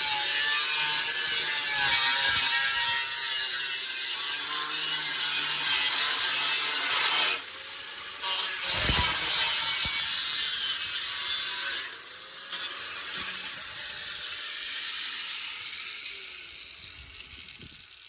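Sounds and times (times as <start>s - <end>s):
power tool cutting sheet metal: 0.0s - 18.0s.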